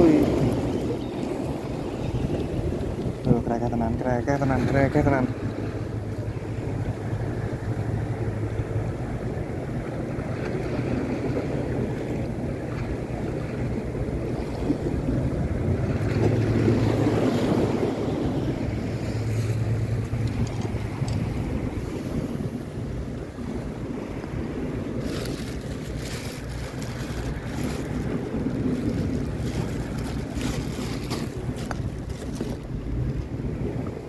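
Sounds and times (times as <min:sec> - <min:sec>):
waves washing against rocks: 0:00.0 - 0:34.0
wind buffeting microphone: 0:00.0 - 0:34.0.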